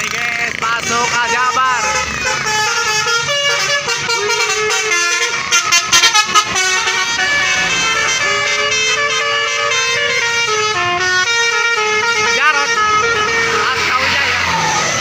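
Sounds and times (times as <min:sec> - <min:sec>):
multi-tone air horn playing a tune: 0:01.2 - 0:14.1.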